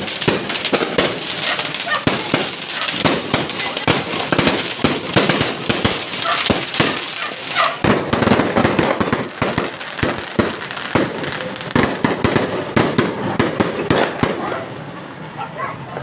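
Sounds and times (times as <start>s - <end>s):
fireworks bangs and crackles: 0.0s - 15.9s.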